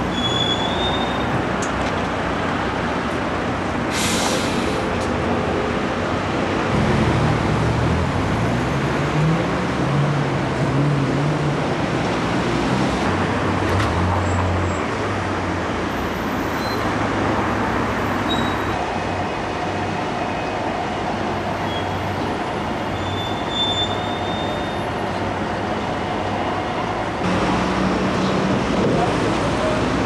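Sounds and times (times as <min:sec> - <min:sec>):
moving vehicle rumble: 0:00.0 - 0:30.0.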